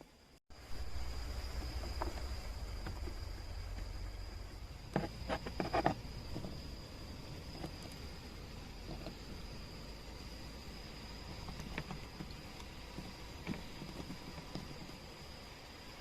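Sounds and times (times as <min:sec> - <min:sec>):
crickets trilling: 0:00.0 - 0:16.0
low steady rumble: 0:00.5 - 0:16.0.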